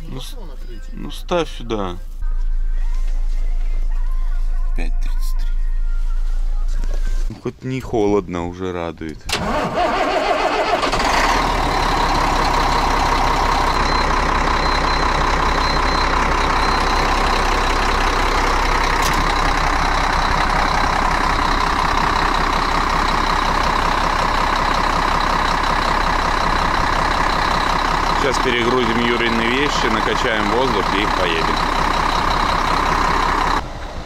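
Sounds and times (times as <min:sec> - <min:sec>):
diesel truck engine idling: 0:00.0 - 0:07.3, 0:07.9 - 0:34.0.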